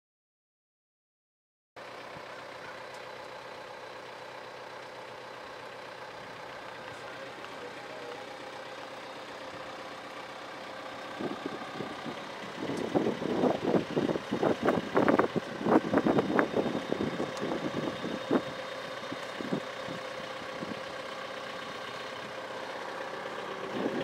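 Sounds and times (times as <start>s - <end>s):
tractor engine running: 1.8s - 24.0s.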